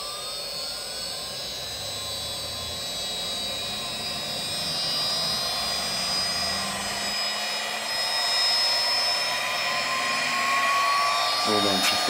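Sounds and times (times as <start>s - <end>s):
router spindle whine rising in pitch: 0.0s - 12.0s.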